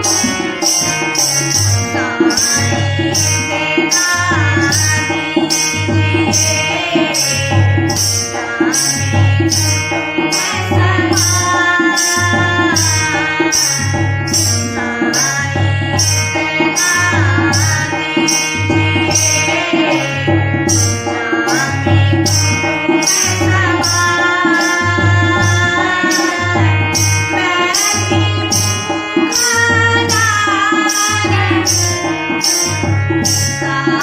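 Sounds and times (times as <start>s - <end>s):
tabla rhythm: 0.0s - 34.0s.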